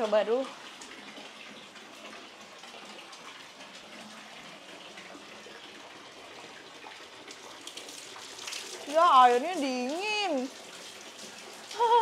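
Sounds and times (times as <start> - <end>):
water running: 0.0 - 12.0.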